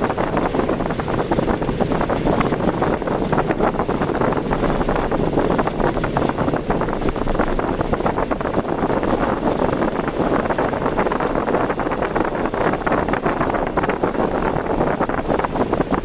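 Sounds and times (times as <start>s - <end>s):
car driving through storm: 0.0s - 16.0s
wind and rain buffeting car: 0.0s - 16.0s.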